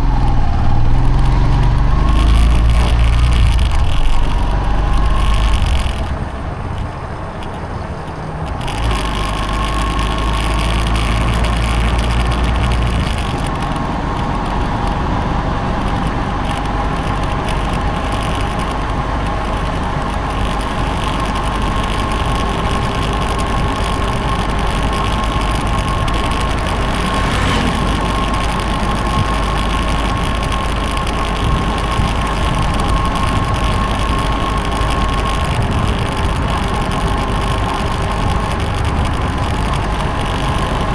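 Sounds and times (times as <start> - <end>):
motorcycle engine running: 0.0 - 40.9
wind rumbling on microphone: 0.0 - 40.9.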